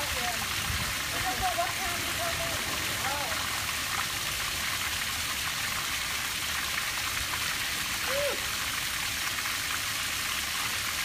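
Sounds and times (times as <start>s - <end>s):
water splashing onto grass: 0.0s - 11.0s.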